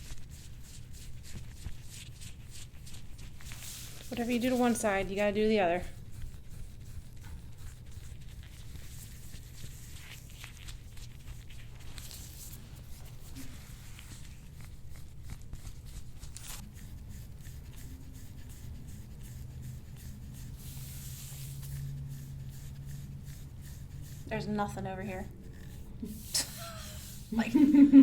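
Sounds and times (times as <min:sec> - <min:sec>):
rubbing and scraping on skin: 0:00.0 - 0:27.7
steady low hum: 0:00.0 - 0:28.0.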